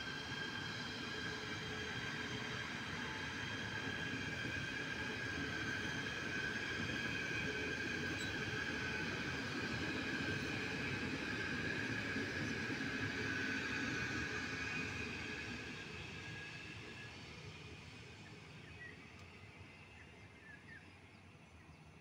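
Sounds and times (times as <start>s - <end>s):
train wheels rumbling on rail: 0.0s - 19.9s
high train whine: 0.0s - 22.0s.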